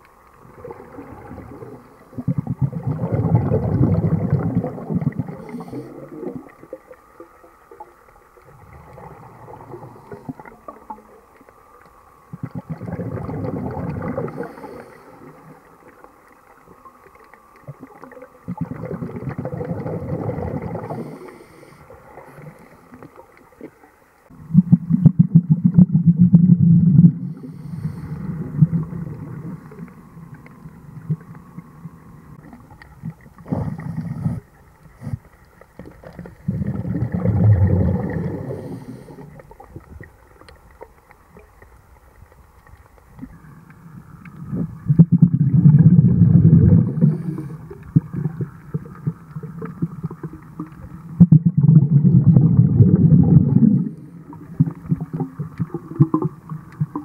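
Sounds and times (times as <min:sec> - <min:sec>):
underwater gurgling rumbles: 0:00.0 - 0:57.0.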